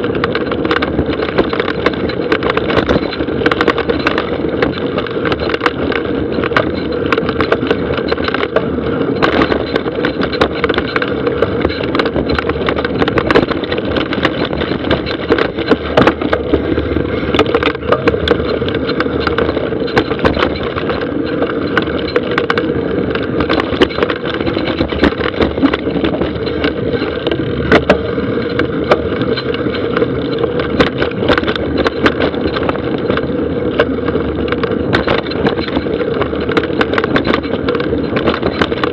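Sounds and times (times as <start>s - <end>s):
bike rattling over bumps: 0.0s - 38.9s
bike tyres rolling on dirt: 0.0s - 38.9s.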